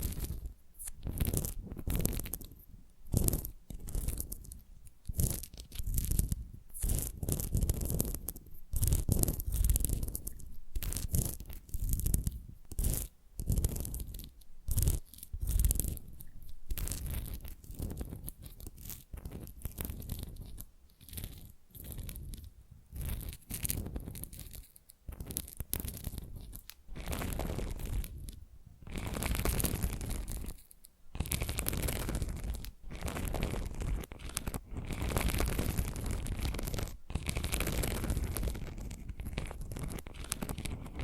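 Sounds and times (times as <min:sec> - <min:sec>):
fingernail scratching and rubbing: 0:00.0 - 0:41.0.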